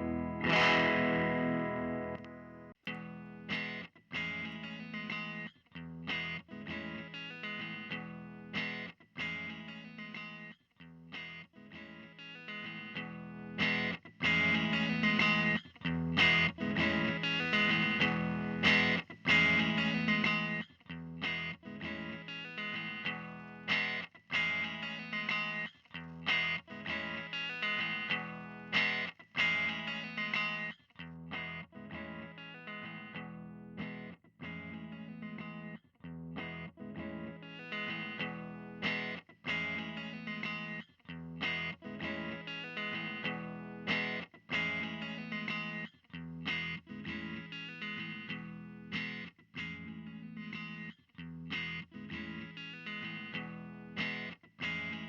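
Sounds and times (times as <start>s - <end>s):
electric guitar chords and notes: 0.0s - 55.0s.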